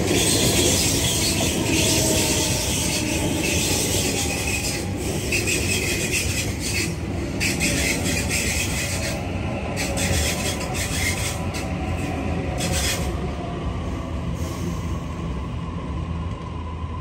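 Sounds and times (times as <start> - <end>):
rail hissing and squealing: 0.0 - 15.6
train wheels rumbling on rail: 0.0 - 17.0.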